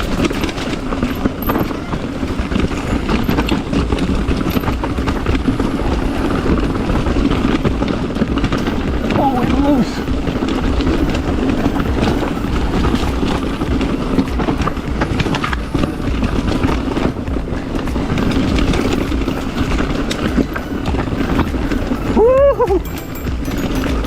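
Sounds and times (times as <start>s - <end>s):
mountain bike clattering over rocks: 0.0s - 24.0s
tires rolling rumble: 0.0s - 24.0s.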